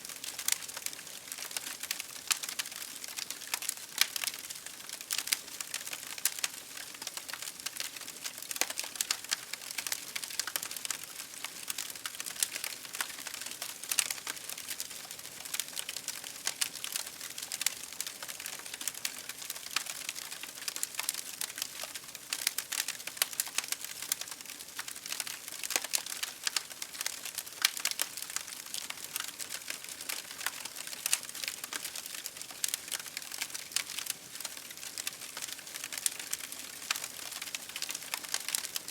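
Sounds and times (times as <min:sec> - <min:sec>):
campfire crackling and popping: 0:00.2 - 0:38.9.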